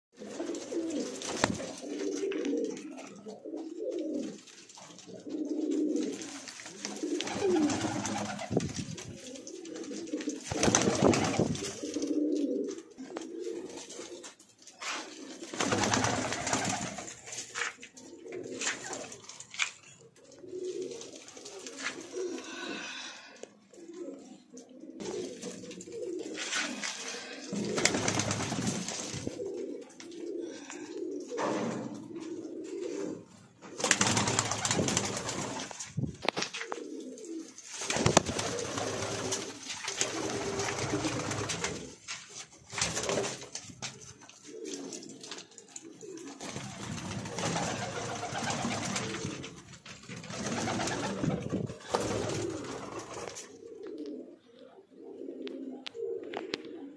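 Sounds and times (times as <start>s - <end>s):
pigeons cooing: 0.2s - 56.9s.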